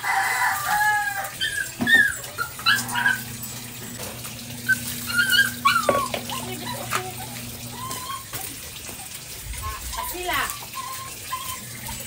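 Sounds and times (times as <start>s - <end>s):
dog whimpering: 0.1s - 3.8s, 4.6s - 12.0s.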